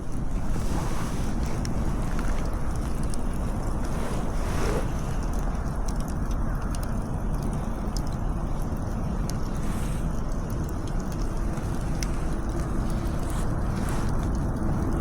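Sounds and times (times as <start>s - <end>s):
wind buffeting microphone: 0.0s - 15.0s
faint ticks: 1.2s - 15.0s.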